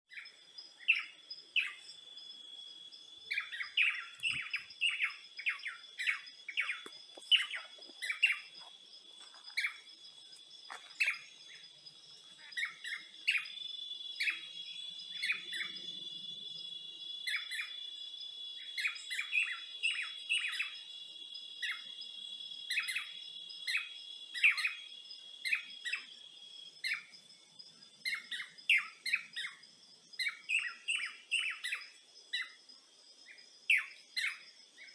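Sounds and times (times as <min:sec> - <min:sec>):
birds chirping: 0:00.1 - 0:34.9
high insect drone: 0:00.1 - 0:34.9.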